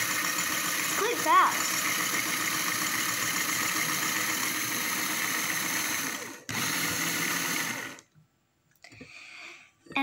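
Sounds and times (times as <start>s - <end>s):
motor and gears whirring: 0.0s - 8.0s.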